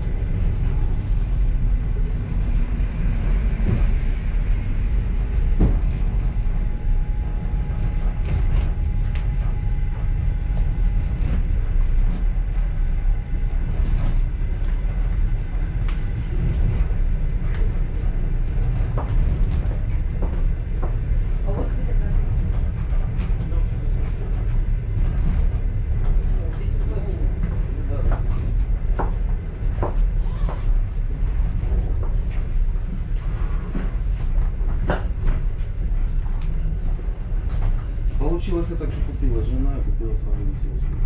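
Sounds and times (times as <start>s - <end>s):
train rumbling: 0.0s - 41.0s.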